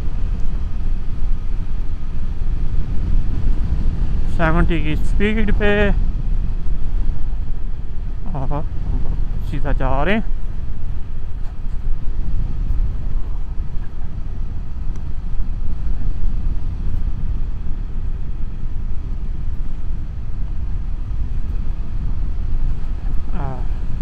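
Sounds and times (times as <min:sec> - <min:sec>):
motorcycle road rumble: 0:00.0 - 0:24.0
wind noise: 0:00.0 - 0:24.0.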